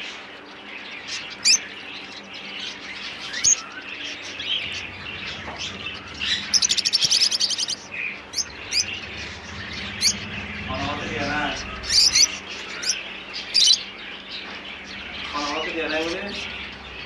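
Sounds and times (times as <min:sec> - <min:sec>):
fast bird trill: 0:00.4 - 0:17.0.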